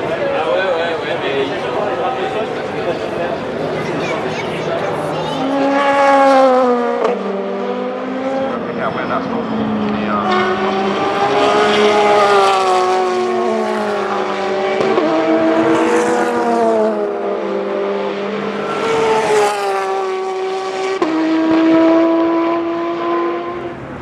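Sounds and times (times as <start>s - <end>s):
race car engines at high revs: 0.0s - 24.0s.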